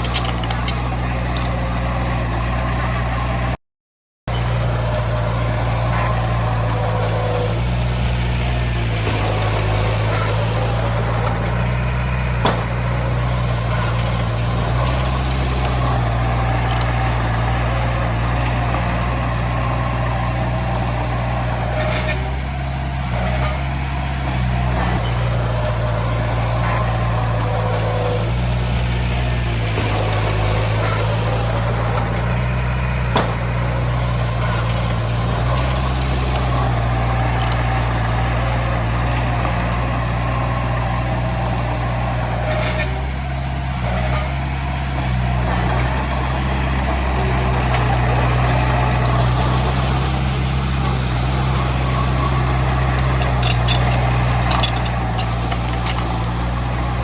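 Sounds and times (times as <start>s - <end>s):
diesel earthmoving machine running: 0.0s - 3.6s, 4.3s - 57.0s.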